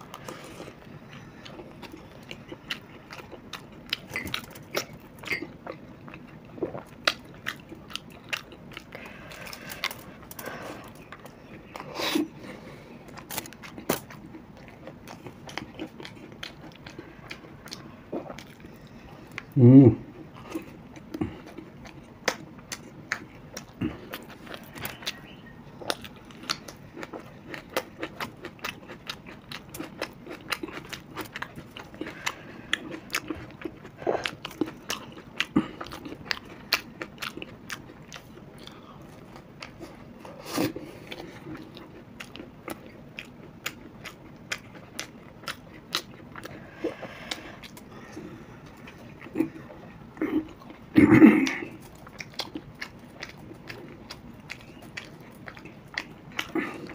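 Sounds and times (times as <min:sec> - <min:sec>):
crunching and chewing snacks: 0:00.0 - 0:19.6, 0:20.3 - 0:56.9.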